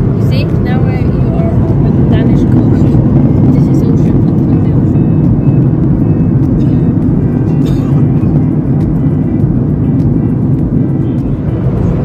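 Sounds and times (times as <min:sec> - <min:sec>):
airliner cabin roar: 0:00.0 - 0:12.0
background music: 0:00.0 - 0:12.0.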